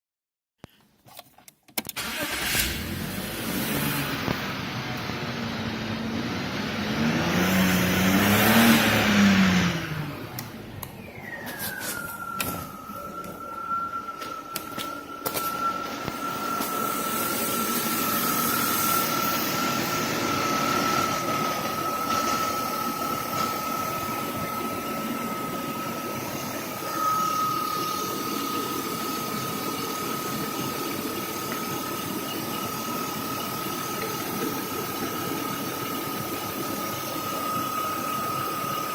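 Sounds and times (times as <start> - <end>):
high whine: 2.6 - 38.9.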